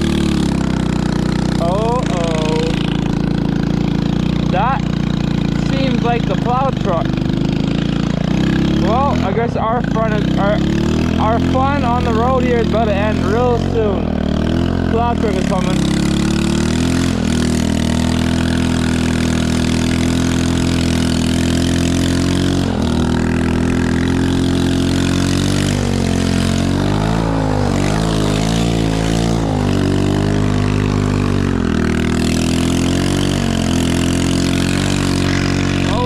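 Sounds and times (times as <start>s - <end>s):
small atv engine running: 0.0s - 36.0s.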